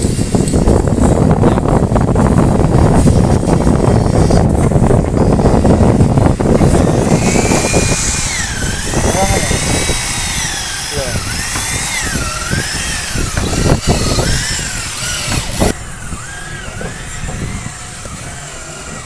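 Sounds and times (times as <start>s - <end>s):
power tool cutting wood: 1.8s - 19.0s.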